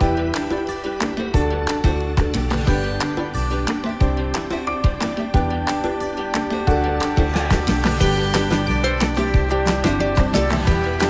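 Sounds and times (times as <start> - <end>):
upbeat latin music with guitar: 0.0 - 11.0.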